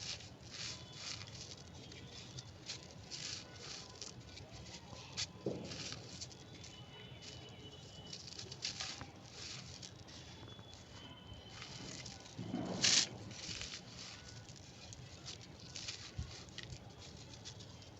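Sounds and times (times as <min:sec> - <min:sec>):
brittle material crunching: 0:00.0 - 0:17.9.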